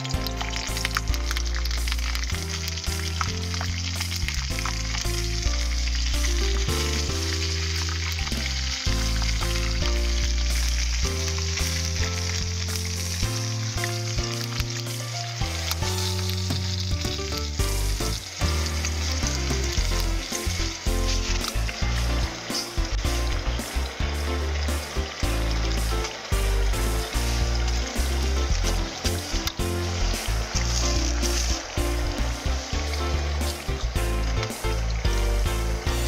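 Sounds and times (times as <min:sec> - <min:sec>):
background music: 0:00.0 - 0:36.0
hot oil sizzling and bubbling: 0:00.0 - 0:36.0.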